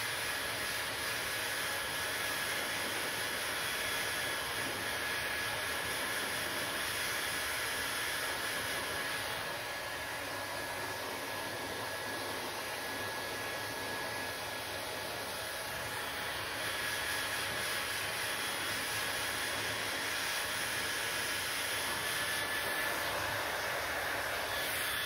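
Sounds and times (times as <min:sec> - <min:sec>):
hair dryer blowing air: 0:00.0 - 0:25.0.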